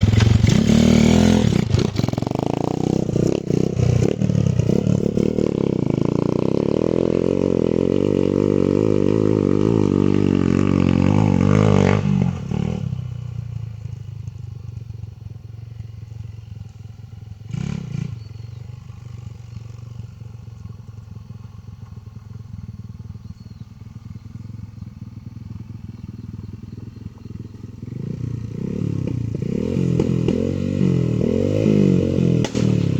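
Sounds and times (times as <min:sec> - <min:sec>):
motorcycle engine revving and idling: 0:00.0 - 0:32.9.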